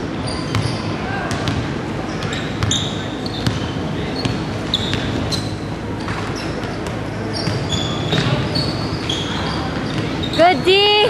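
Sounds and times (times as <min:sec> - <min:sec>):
echoing hall noise: 0:00.0 - 0:11.0
sneakers squeaking: 0:00.0 - 0:11.0.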